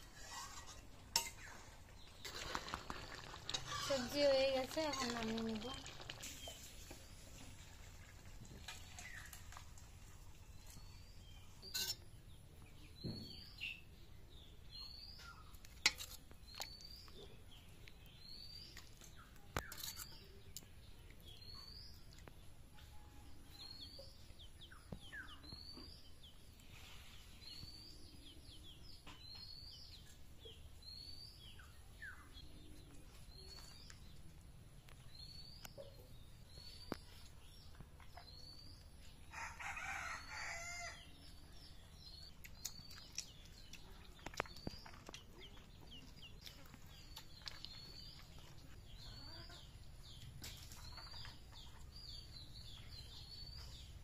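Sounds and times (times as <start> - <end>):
small bird chirping: 8.6 - 39.3, 40.0 - 54.0.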